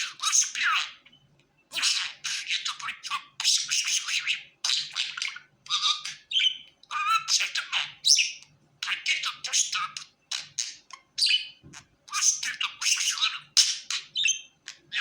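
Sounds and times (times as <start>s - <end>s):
budgerigar chirping and squawking: 0.0s - 15.0s.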